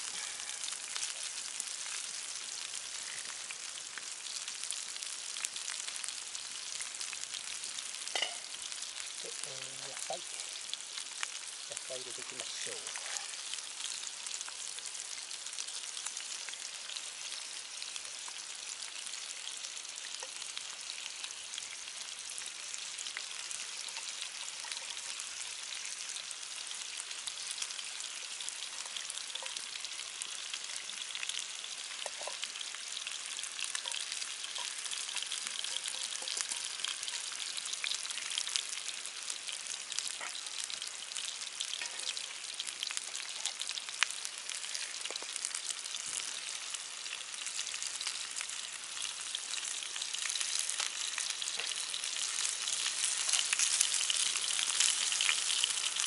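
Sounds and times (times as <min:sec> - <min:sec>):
food sizzling in frying pan: 0:00.0 - 0:56.0.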